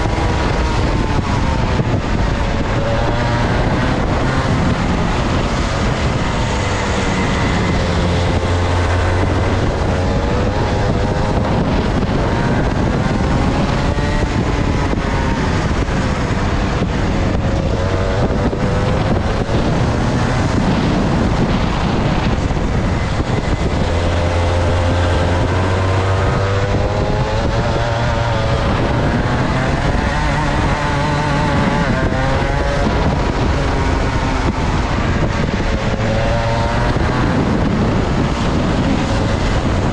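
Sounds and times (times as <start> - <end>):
two-stroke kart engine revving: 0.0 - 39.9.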